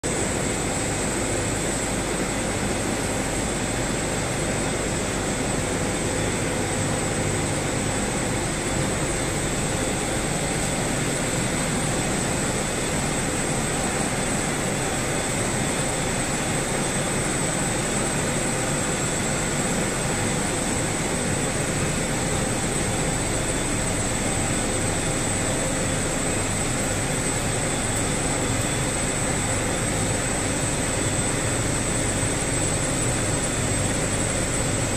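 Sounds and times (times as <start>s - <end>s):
constant high whine: 0.0s - 34.9s.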